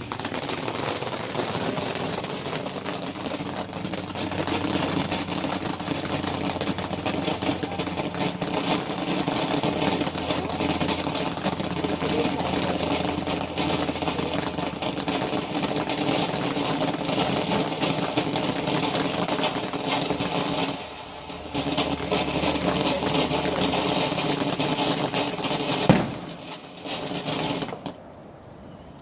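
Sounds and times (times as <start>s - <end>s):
sharp crack: 0.0s - 28.0s.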